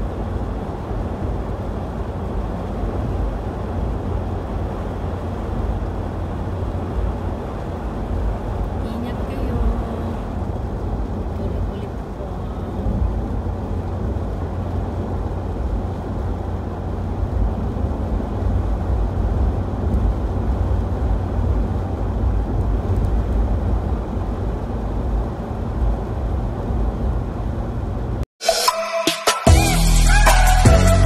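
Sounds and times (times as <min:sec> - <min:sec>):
car tyres and engine rumble: 0:00.0 - 0:28.3.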